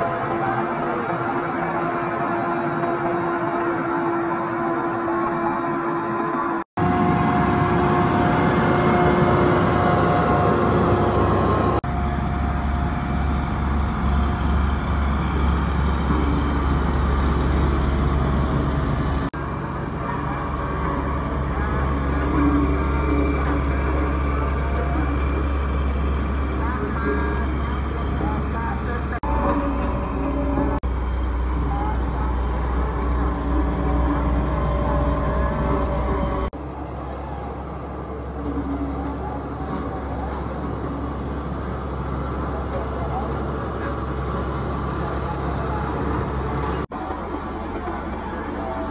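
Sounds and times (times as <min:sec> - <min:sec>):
road roller diesel engine drone: 0:00.0 - 0:48.9.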